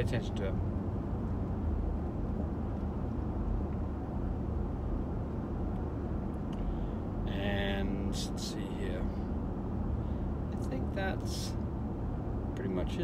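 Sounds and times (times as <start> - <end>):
road and engine rumble in car cabin: 0.0 - 13.0.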